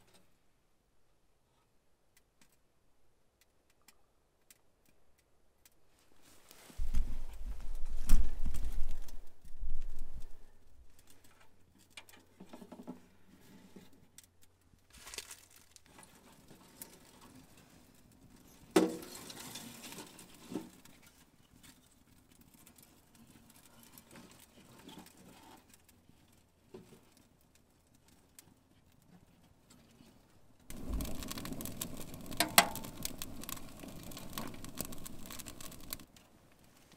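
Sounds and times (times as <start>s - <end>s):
wood fire crackling in stove: 3.3s - 36.9s.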